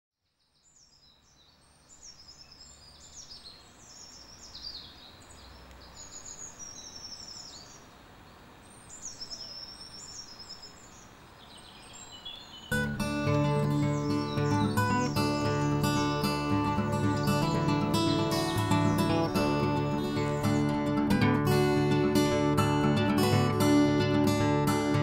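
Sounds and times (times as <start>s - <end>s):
small birds chirping and trilling: 0.2s - 25.0s
steady background hiss: 0.5s - 25.0s.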